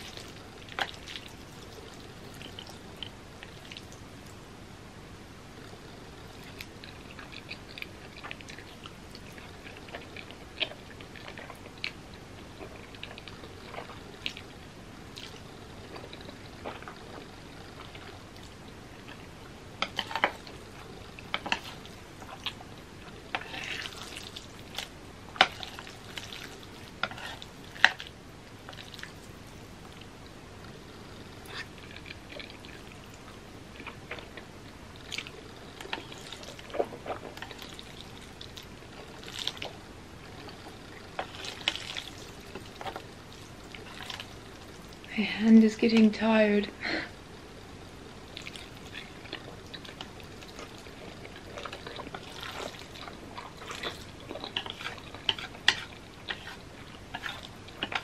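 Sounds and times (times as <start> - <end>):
chewing noodles: 0.0 - 4.4, 5.6 - 30.1, 30.7 - 45.1, 48.2 - 58.0.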